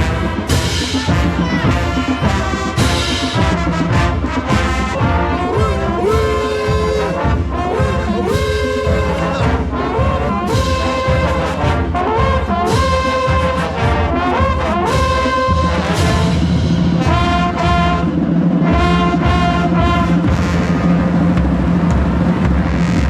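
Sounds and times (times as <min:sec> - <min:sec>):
brass-led music: 0:00.0 - 0:23.0.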